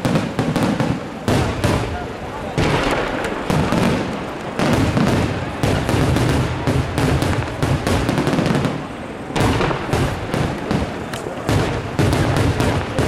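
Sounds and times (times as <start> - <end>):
fireworks bursting and banging: 0.0 - 13.0.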